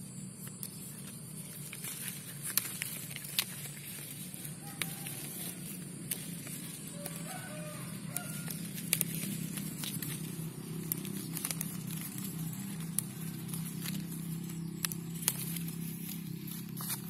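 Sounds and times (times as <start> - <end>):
leaves rustling: 0.0 - 17.0
steady low hum: 0.0 - 17.0.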